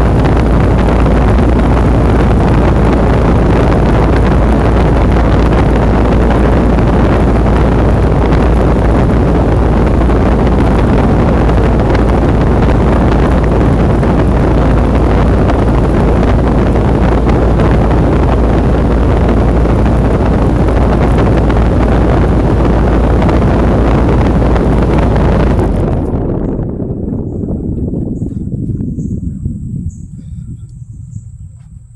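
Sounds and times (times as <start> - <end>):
compressor hum: 0.0 - 31.9
fan air rushing: 0.0 - 31.9
wind buffeting microphone: 0.0 - 31.9.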